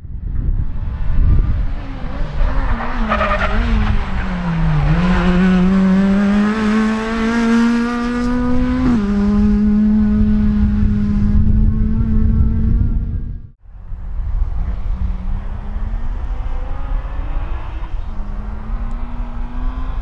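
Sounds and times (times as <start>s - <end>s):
rally car engine passing: 0.6s - 20.0s.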